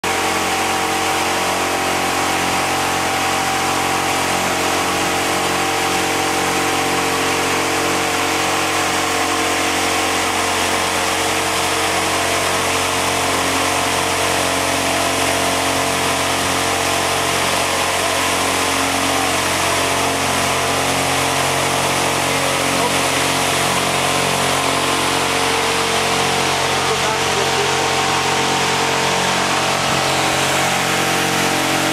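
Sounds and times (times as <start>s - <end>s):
wind machine fan running: 0.0s - 31.9s.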